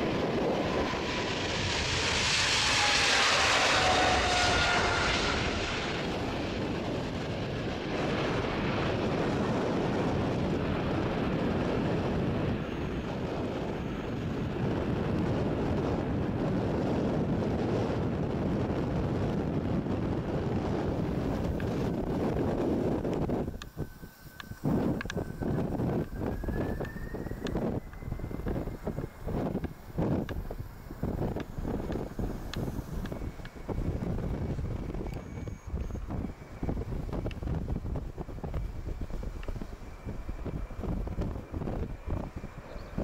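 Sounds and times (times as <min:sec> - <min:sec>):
jet airliner taking off: 0:00.0 - 0:43.0.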